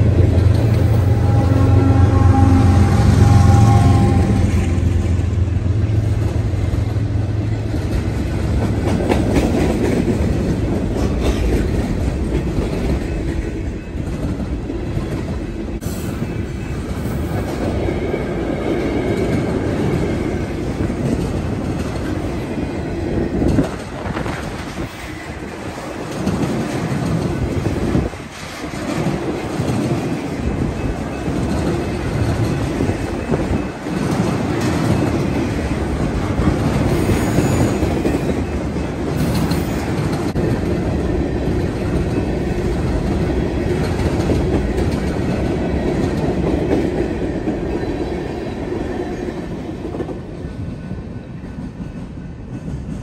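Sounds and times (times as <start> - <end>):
diesel locomotive drone: 0.0 - 53.0
train wheels clacking on rails: 0.0 - 53.0.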